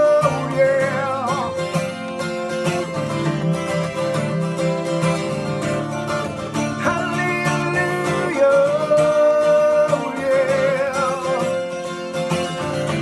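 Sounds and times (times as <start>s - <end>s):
plucked guitar chords: 0.0s - 13.0s.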